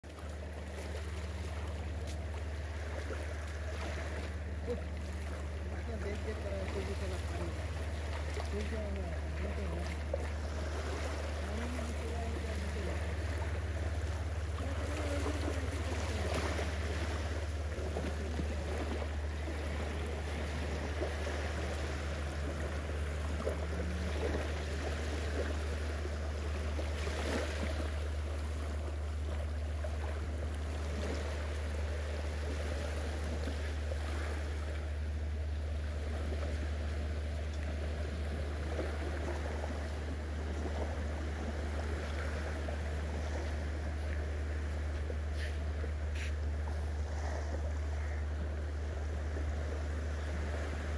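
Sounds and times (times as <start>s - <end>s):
gentle surf on sand: 0.0s - 50.9s.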